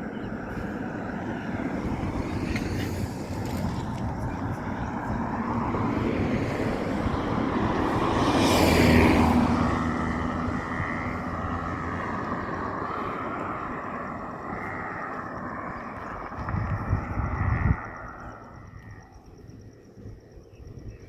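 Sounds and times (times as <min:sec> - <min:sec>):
motor vehicle passing by: 0:00.0 - 0:19.1.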